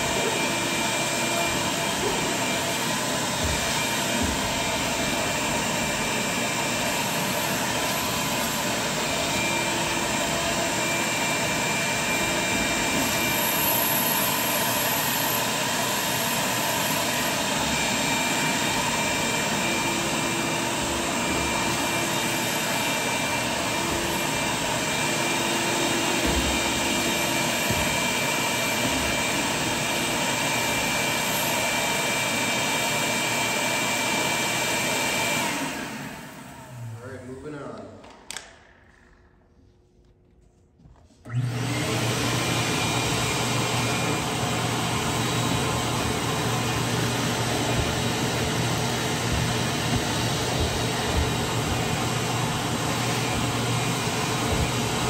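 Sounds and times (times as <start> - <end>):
shop vacuum running: 0.0 - 55.0.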